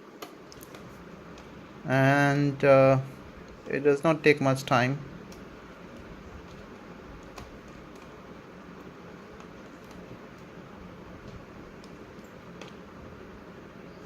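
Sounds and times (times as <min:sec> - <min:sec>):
low room hiss: 0:00.0 - 0:14.0.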